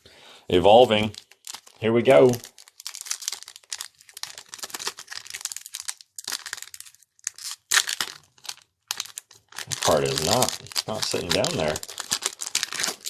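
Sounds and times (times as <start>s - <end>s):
foil wrapper tearing and crinkling: 0.9s - 13.0s.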